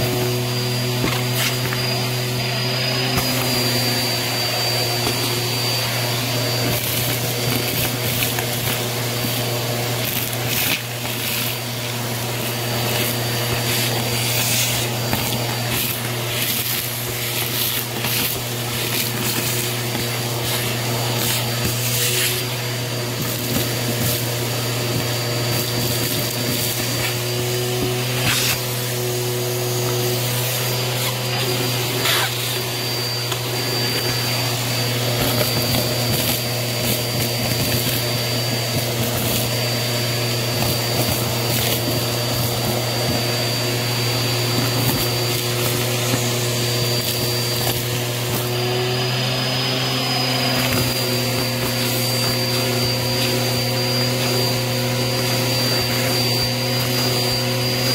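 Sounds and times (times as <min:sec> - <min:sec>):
vacuum motor hum: 0:00.0 - 0:57.9
vacuum sucking gritty debris: 0:00.0 - 0:57.9.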